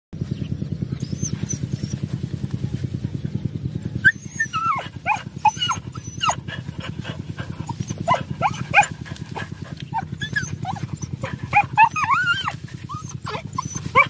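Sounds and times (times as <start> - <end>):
pulsing low engine drone: 0.2 - 14.0
dogs whining and yipping: 0.9 - 2.2, 4.0 - 14.0.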